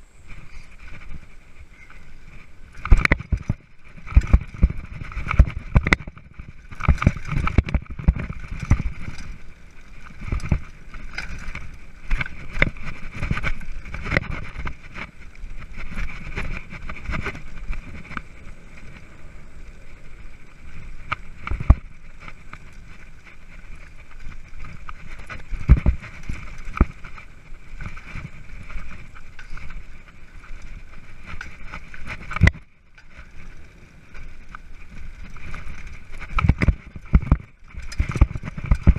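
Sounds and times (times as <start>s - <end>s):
tyre and wind noise: 0.0s - 38.9s
bike knocks and rattles: 0.4s - 38.9s.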